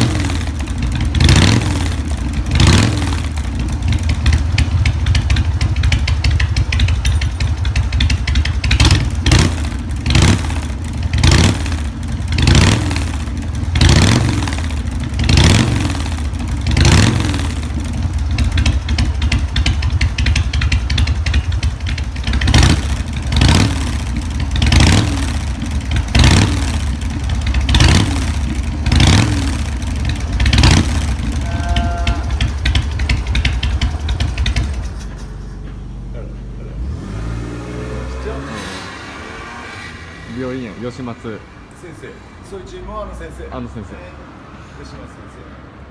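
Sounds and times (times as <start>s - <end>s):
motorcycle engine idling and revving: 0.0s - 44.4s.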